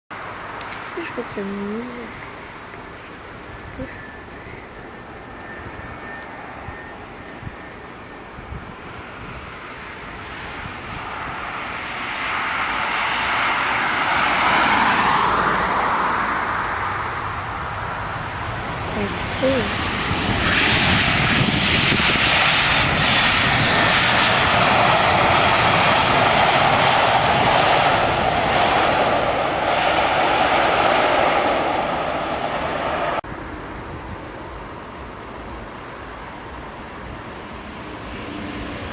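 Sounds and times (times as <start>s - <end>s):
airliner engine noise: 0.2s - 38.9s.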